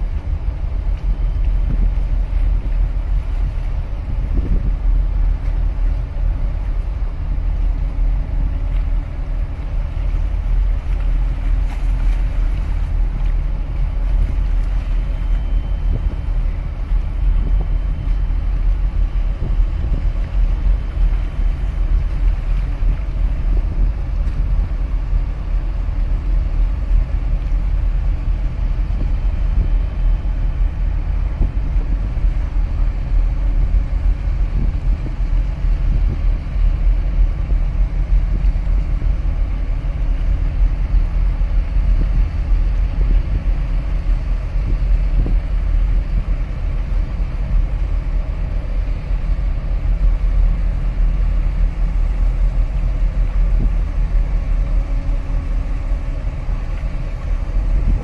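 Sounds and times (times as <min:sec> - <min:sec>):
ship machinery rumble: 0:00.0 - 0:58.0.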